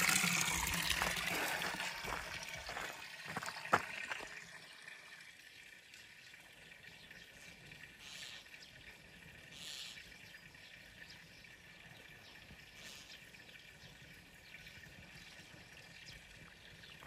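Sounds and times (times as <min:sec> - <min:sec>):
faint running water: 0:00.0 - 0:17.0.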